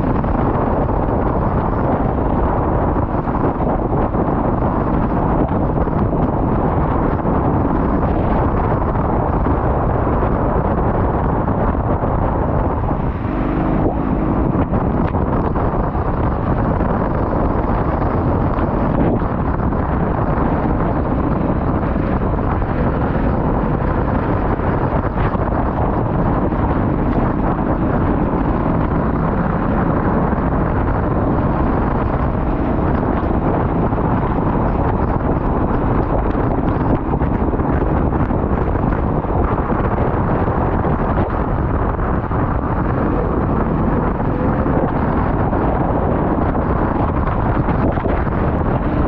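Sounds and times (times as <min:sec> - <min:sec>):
heavy wind noise: 0:00.0 - 0:49.0
racing kart engine running: 0:00.0 - 0:49.0.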